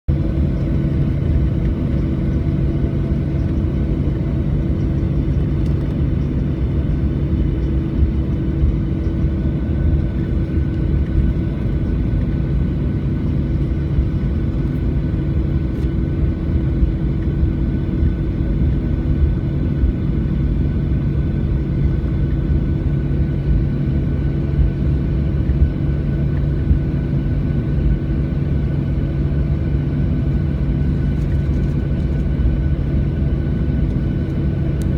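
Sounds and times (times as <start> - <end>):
airplane engine drone: 0.1 - 34.9.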